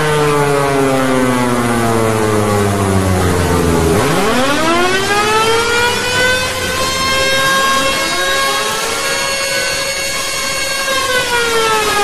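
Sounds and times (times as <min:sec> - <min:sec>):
electric motor siren wailing: 0:00.0 - 0:12.0.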